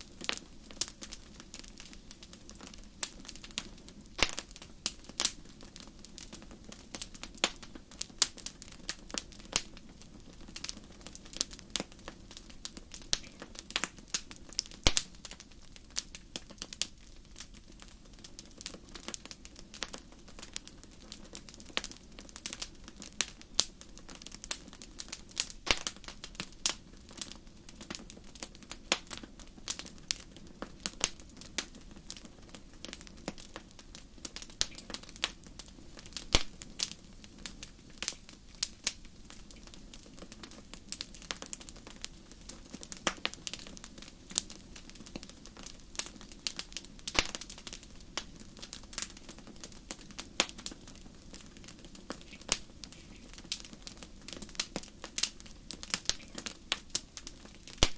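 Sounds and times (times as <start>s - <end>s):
low hiss of burning fire: 0.0s - 57.9s
wood fire crackling and popping: 0.0s - 57.9s.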